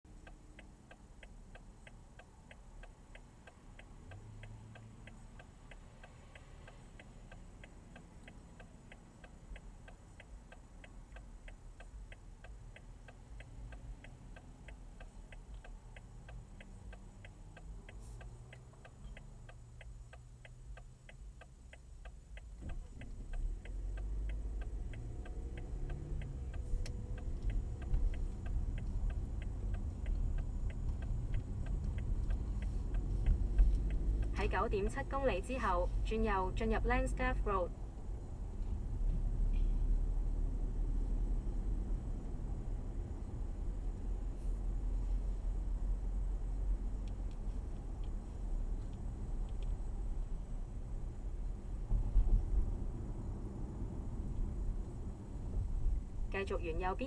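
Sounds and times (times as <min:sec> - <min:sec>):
car turn signal ticking: 0:00.1 - 0:57.0
car engine accelerating: 0:02.6 - 0:57.0.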